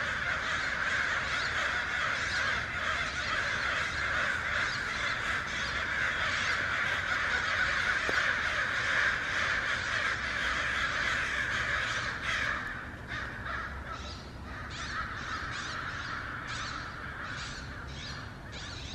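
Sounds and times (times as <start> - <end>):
flock of crows cawing: 0.0 - 18.9.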